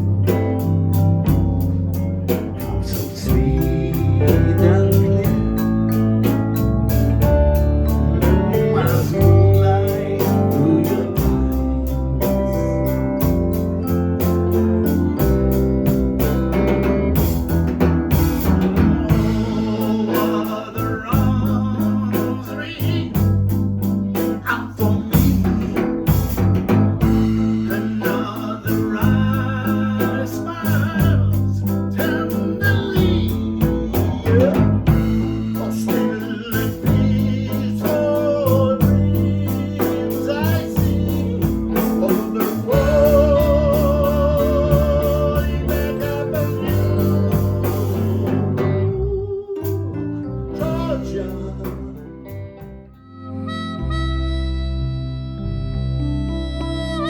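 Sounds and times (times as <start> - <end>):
electric guitar bent notes: 0.0 - 57.0
live blues band: 0.0 - 57.0.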